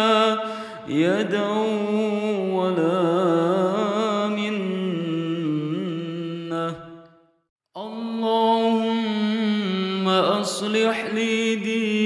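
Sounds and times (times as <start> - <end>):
voice chanting melodic recitation: 0.0 - 7.2, 7.8 - 12.0.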